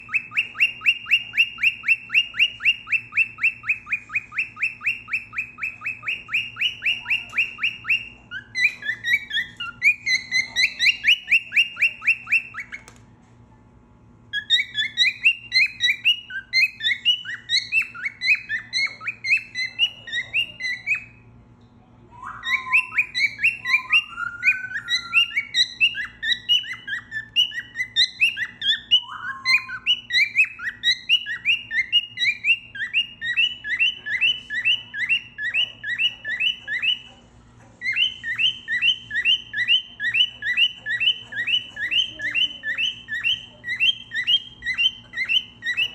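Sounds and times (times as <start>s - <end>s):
cockatiel whistling and chirping: 0.0s - 13.0s, 14.3s - 21.2s, 22.1s - 37.2s, 37.8s - 45.9s.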